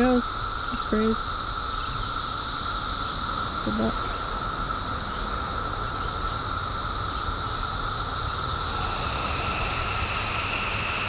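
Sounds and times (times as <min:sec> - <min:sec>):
cicadas droning: 0:00.0 - 0:11.0
high hiss: 0:00.0 - 0:11.0.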